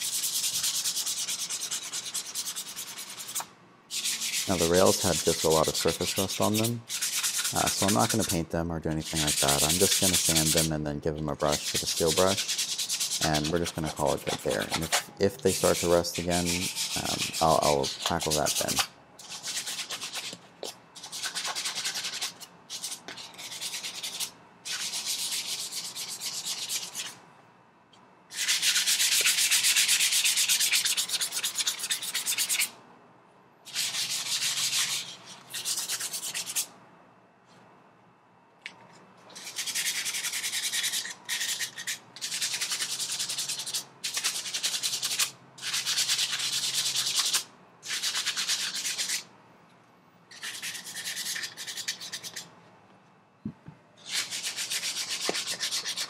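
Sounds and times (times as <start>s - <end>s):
sandpaper rubbing on rusty steel: 0.0s - 10.7s, 11.4s - 20.4s, 21.0s - 27.2s, 28.3s - 32.7s, 33.7s - 36.7s, 39.4s - 49.3s, 50.3s - 52.5s, 54.0s - 56.0s.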